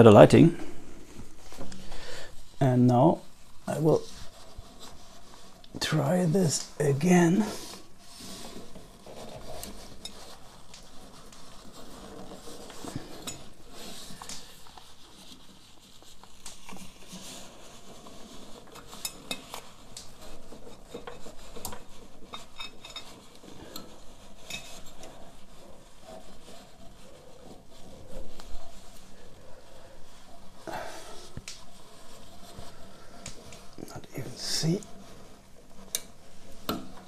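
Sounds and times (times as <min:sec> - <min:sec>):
gloved hand rubbing on wires: 0:00.0 - 0:37.0.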